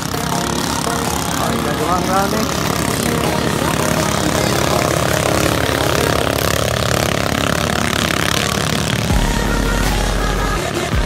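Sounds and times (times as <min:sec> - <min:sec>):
boat engine running hard: 0:00.0 - 0:11.0.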